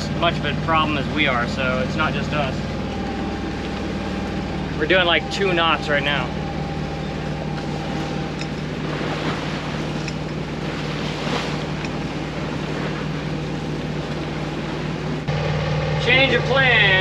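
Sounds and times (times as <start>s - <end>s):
boat engine running: 0.0s - 17.0s
waves splashing against bow: 0.0s - 17.0s.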